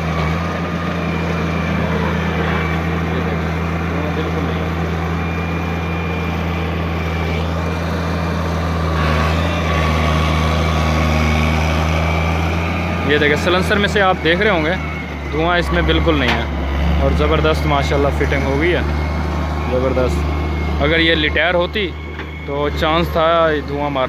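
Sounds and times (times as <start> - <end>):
diesel engine running under load: 0.0 - 24.0.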